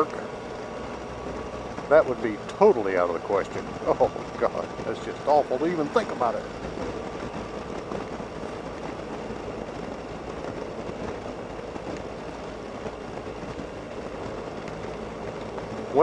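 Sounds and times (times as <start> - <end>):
scooter engine cruising: 0.0 - 16.0
wind and road noise: 0.0 - 16.0.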